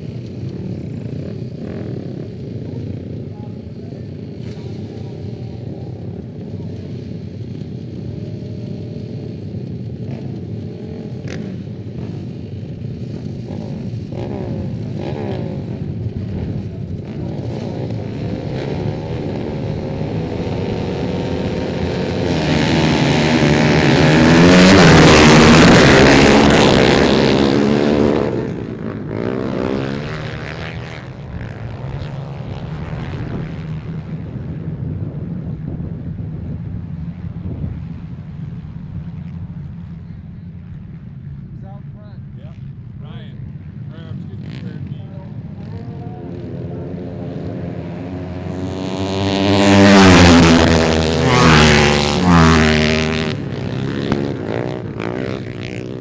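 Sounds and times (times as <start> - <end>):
motorcycles idling and revving: 0.0 - 56.0.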